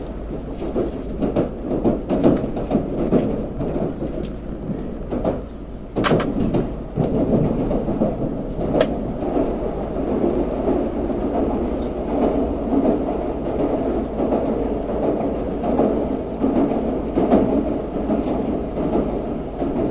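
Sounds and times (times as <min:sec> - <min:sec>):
train interior low rumble: 0:00.0 - 0:19.9.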